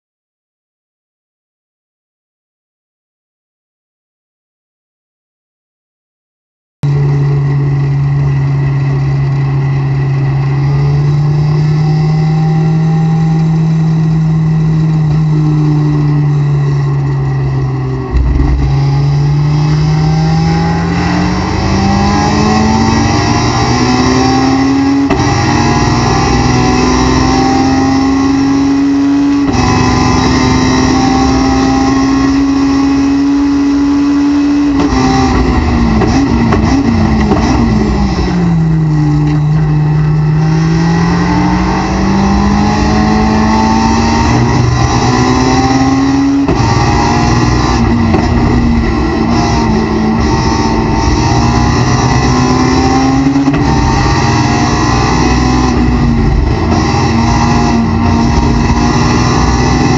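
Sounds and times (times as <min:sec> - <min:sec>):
car engine revving: 0:06.9 - 0:59.9.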